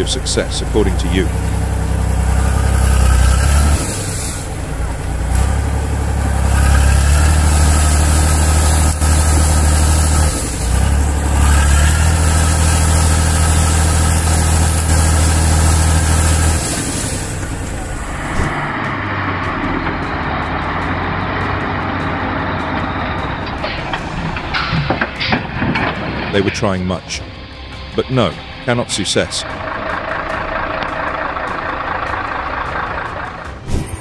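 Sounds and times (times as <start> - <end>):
truck engine under load: 0.0 - 34.0.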